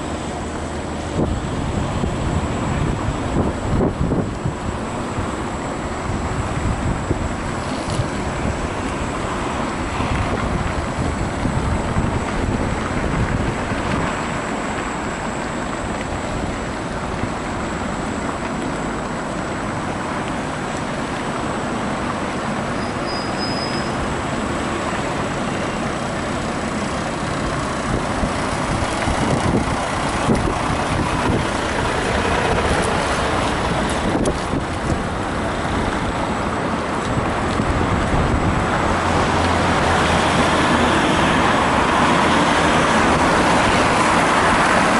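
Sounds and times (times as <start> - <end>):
wind rushing over microphone: 0.0 - 18.2, 24.0 - 44.9
road traffic noise: 0.0 - 44.9.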